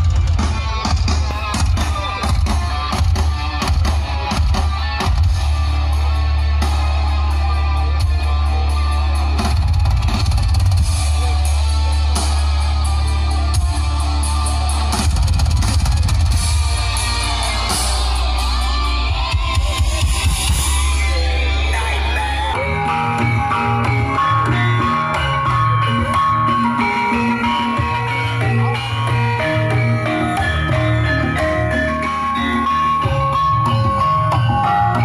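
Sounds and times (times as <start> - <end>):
loud music with guitar and drums: 0.0 - 35.0.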